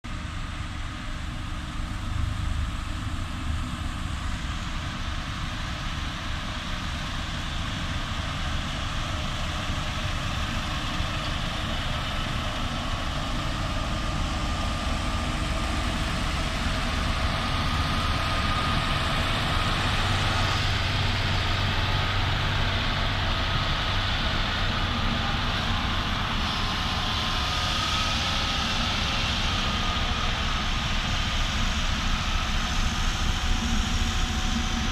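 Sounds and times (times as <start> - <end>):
heavy diesel engines running: 0.0 - 34.9.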